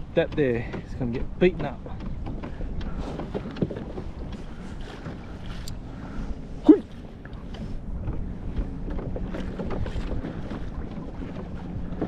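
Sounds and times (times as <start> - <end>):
water slapping against hull: 0.0 - 12.0
wind buffeting microphone: 0.0 - 12.0.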